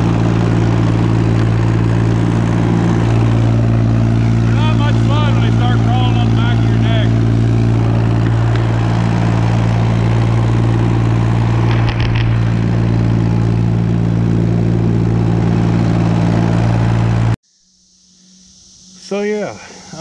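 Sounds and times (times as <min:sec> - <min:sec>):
tractor engine running: 0:00.0 - 0:17.4.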